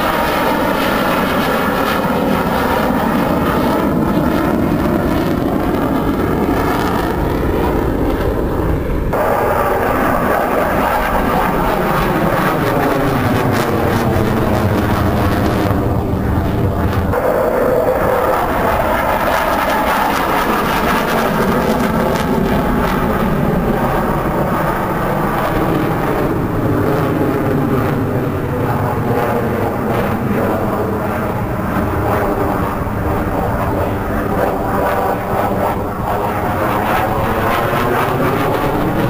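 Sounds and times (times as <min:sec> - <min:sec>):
jet fighter engine roar: 0:00.0 - 0:39.0.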